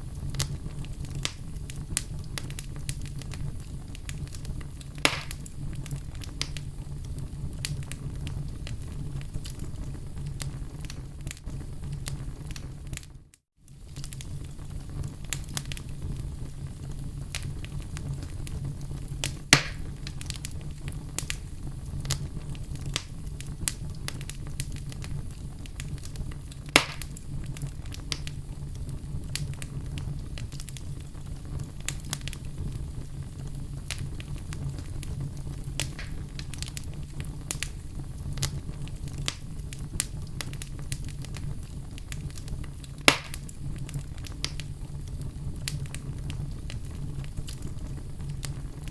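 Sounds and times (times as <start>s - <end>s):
fire crackling in fireplace: 0.0s - 48.9s
fire popping: 0.0s - 48.9s.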